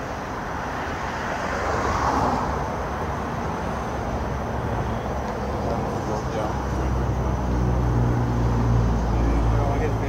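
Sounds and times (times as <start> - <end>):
passing vehicles rushing: 0.0 - 10.0.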